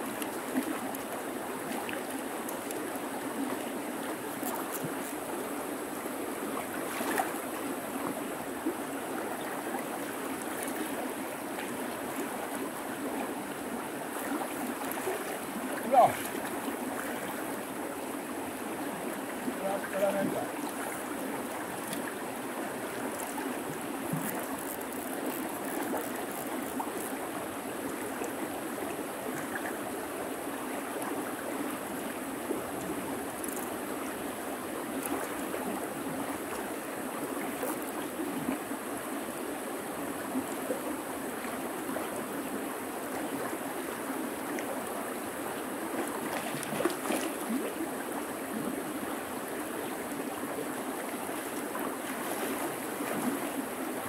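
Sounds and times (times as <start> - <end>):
river water running: 0.0 - 54.0.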